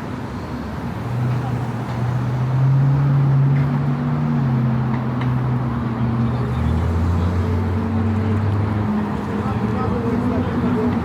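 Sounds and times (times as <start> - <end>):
tyre and road noise: 0.0 - 11.0
vehicle engines droning: 0.0 - 11.0.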